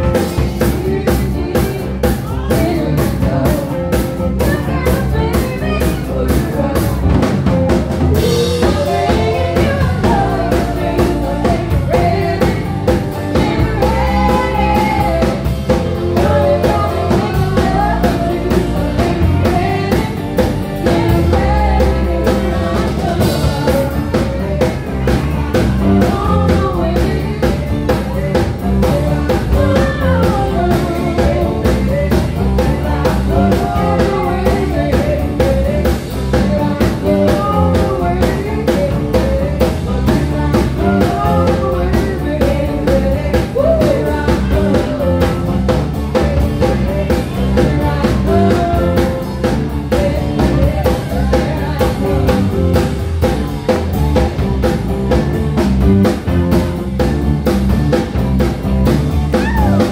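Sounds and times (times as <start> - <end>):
woman singing: 0.0 - 53.0
drum kit beat: 0.0 - 59.9
electric guitars: 0.0 - 59.9.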